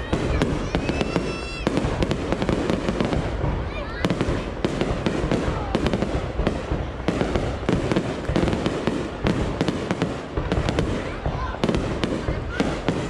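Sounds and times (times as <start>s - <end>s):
firework crackling: 0.0s - 13.0s
rumble of firework bursts: 0.0s - 13.0s
sharp firework bangs: 0.0s - 13.0s.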